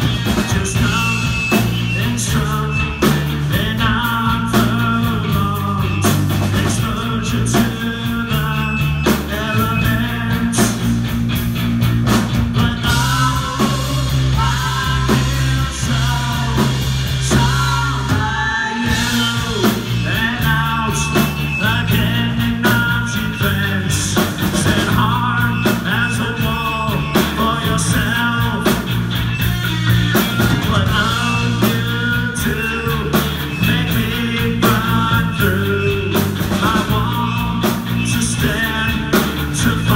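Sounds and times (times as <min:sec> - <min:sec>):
person singing: 0:00.0 - 0:10.9, 0:12.5 - 0:39.9
live rock band playing: 0:00.0 - 0:39.9.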